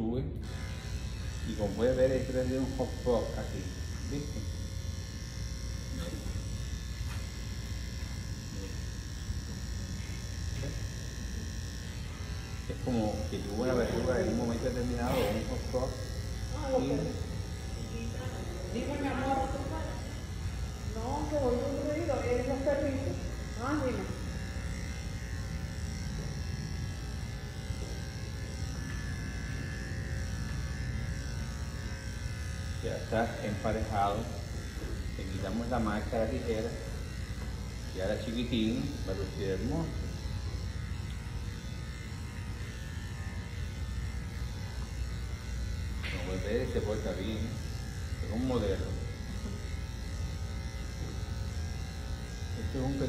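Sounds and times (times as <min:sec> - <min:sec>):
electric dog clippers running: 0:00.0 - 0:53.0.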